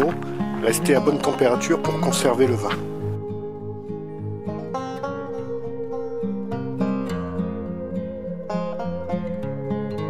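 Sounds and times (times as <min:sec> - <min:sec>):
plucked acoustic string music: 0:00.0 - 0:10.0.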